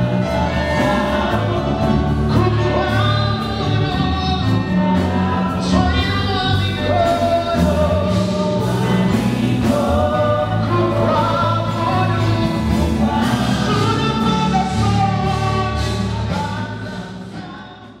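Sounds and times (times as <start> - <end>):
gospel choir singing: 0.0 - 18.0
instrumental backing: 0.0 - 18.0.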